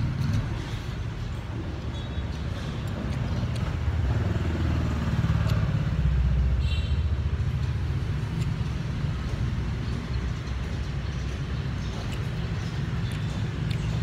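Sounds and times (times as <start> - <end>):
steady traffic rumble: 0.0 - 14.0.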